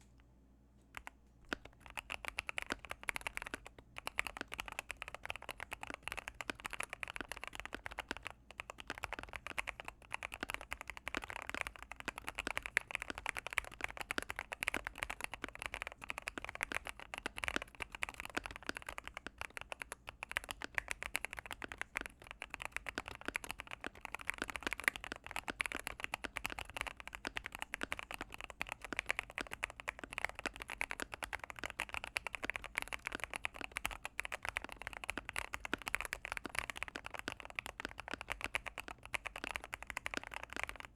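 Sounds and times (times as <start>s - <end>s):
fast typing on mechanical keyboard: 1.0s - 40.9s.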